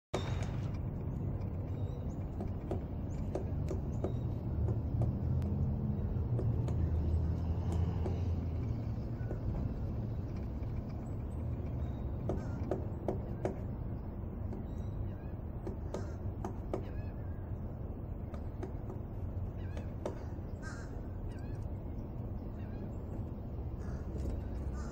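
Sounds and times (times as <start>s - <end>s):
woodpecker knocking on tree: 0.2s - 17.4s, 18.2s - 20.9s.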